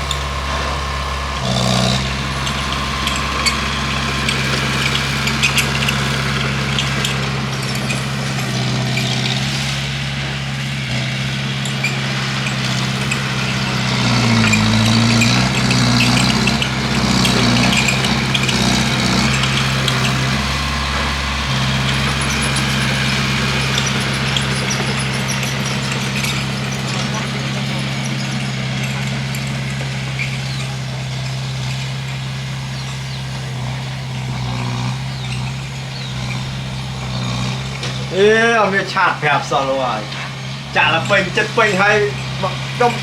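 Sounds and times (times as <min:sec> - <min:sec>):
light clanking: 0:00.0 - 0:10.4, 0:11.6 - 0:43.0
bulldozer diesel engine: 0:00.0 - 0:43.0.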